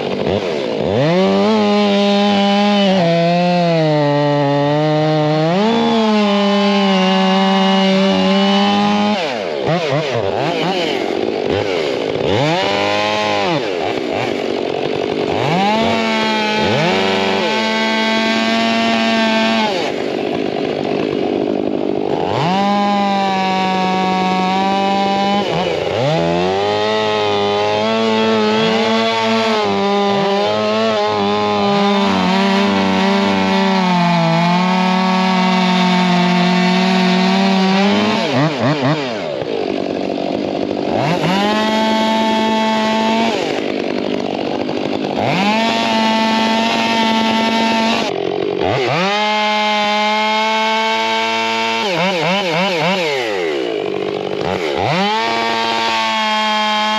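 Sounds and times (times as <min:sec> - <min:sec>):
chainsaw revving and cutting: 0:00.0 - 0:56.9.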